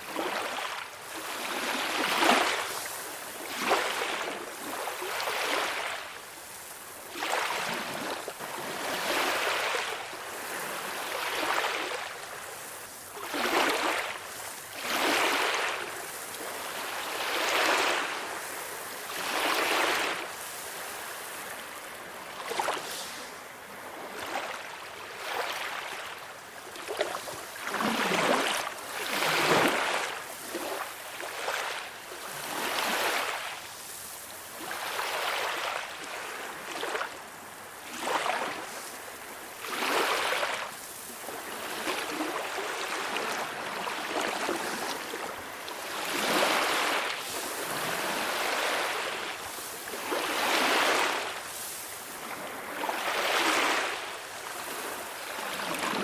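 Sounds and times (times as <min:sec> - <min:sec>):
small waves breaking on shore: 0:00.0 - 0:56.0.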